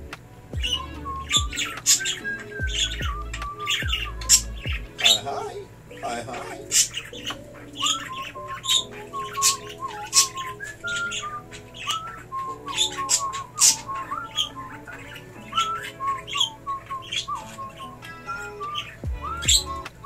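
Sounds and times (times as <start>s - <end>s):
background music with held notes: 0.0s - 20.0s
budgerigars chirping and squawking: 0.0s - 20.0s.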